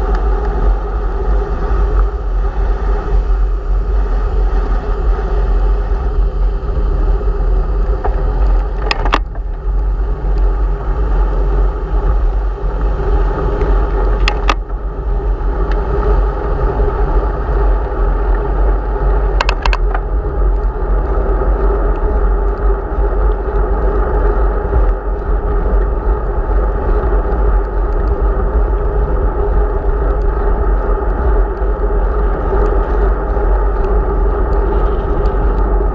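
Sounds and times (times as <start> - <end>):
wind noise on microphone: 0.0 - 35.9.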